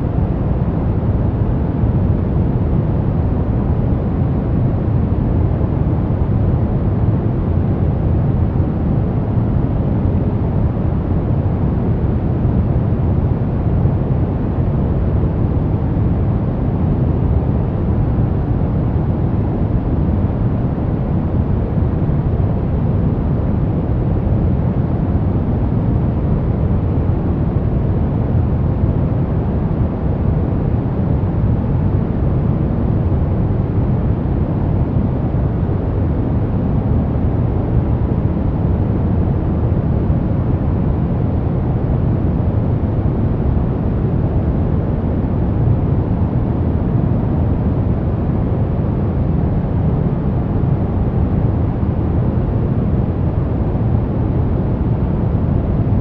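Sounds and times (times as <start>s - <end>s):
low rumbling white noise: 0.0s - 56.0s.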